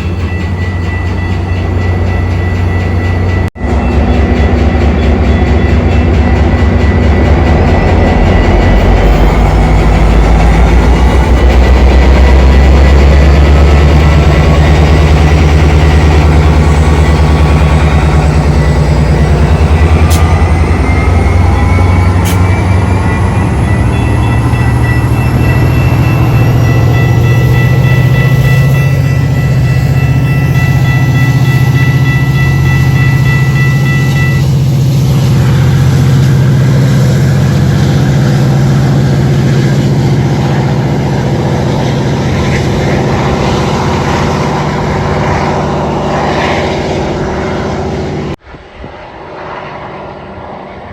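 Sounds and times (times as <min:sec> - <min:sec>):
diesel locomotive engine: 0:00.0 - 0:50.9
train cars rumbling: 0:00.0 - 0:50.9.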